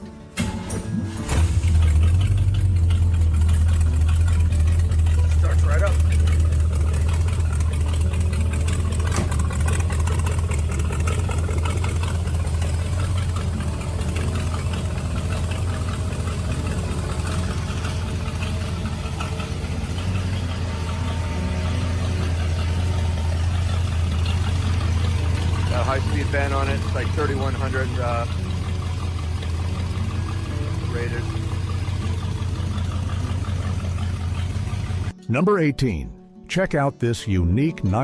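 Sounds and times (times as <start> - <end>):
car engine idling: 0.0 - 35.2.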